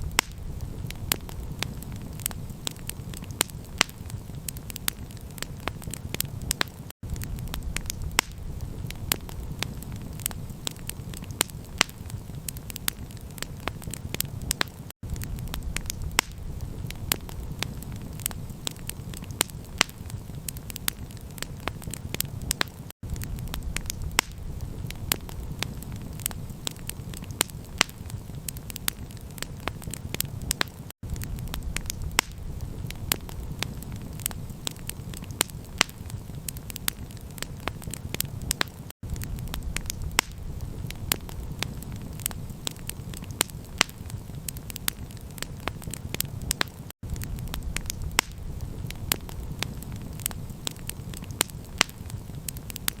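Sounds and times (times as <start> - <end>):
campfire crackling: 0.0 - 53.0
low fire rumble: 0.0 - 53.0.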